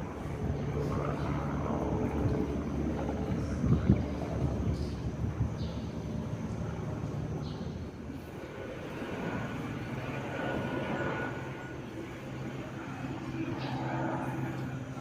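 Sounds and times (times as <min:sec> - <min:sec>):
low engine rumble with hiss: 0:00.0 - 0:15.0.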